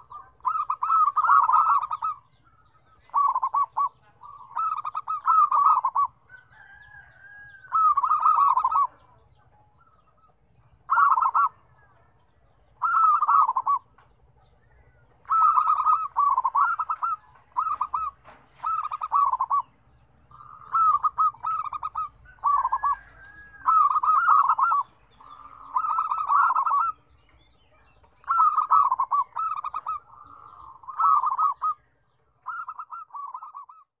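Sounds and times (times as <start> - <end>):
doves cooing: 0.0 - 34.0.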